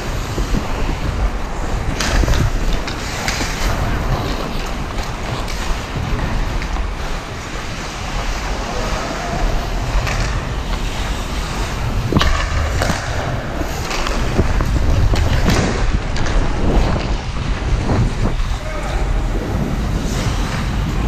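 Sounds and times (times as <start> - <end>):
skate blades scraping ice: 0.0 - 21.0
wind on microphone: 0.0 - 21.0.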